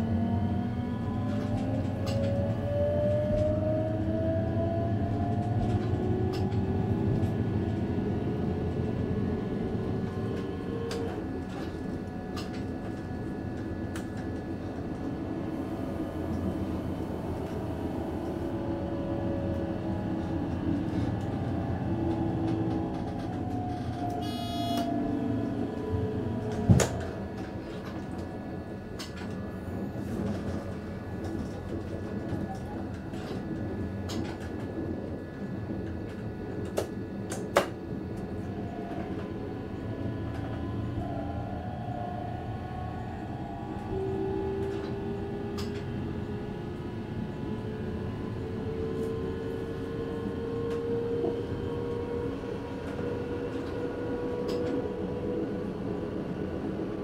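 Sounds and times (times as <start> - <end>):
train rumble and hum: 0.0 - 57.0.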